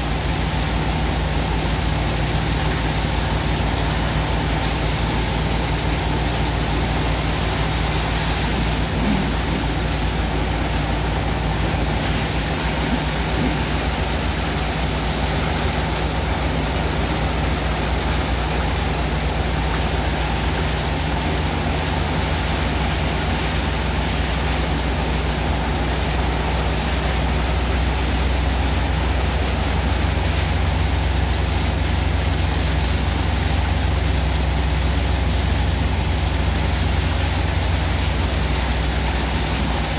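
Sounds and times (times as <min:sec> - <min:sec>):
pump engine drone: 0:00.0 - 0:39.9
water jets spraying into sand: 0:00.0 - 0:39.9.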